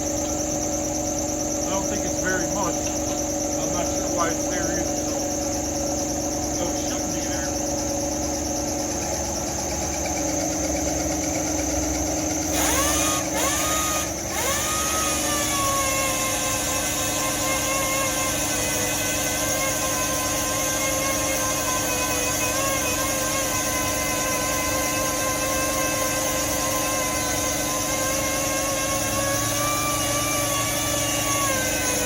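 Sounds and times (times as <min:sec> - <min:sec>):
power sander whining: 0:00.0 - 0:32.0
steady shop hum: 0:00.0 - 0:32.0.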